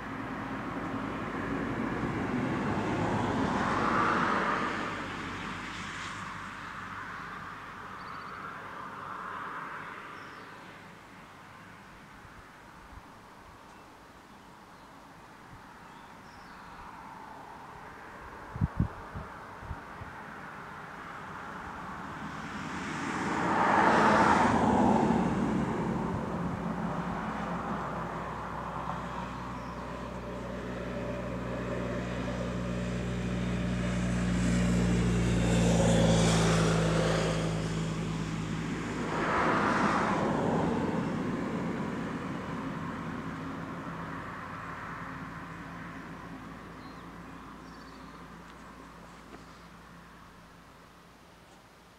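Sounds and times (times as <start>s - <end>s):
vehicles passing on road: 0.0s - 51.9s.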